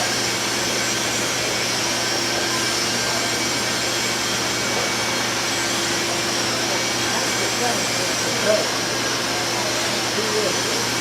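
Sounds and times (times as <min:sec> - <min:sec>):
whirring machine: 0:00.0 - 0:11.0.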